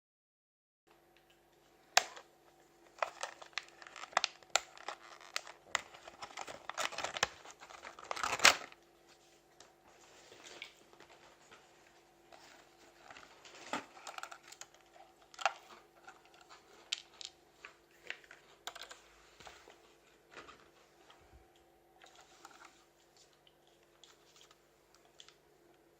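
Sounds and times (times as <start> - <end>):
faint steady hum: 0.9 - 25.9
crinkling and rustling: 1.1 - 25.8.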